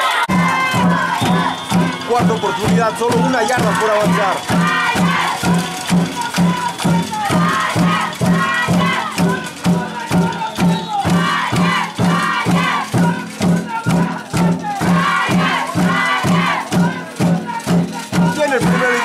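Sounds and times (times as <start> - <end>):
spectators shouting and chanting: 0.0 - 19.0
rattles shaken: 0.3 - 19.0
steady drum beat: 0.3 - 19.0.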